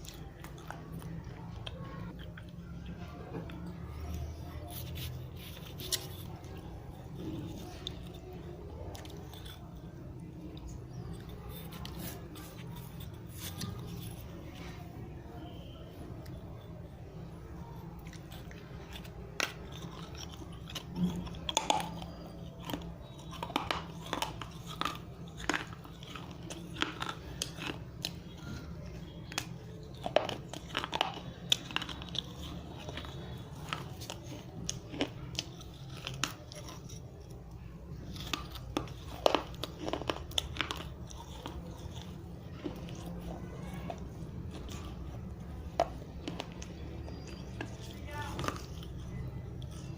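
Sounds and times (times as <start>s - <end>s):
clay being bitten and chewed: 0.0s - 49.9s.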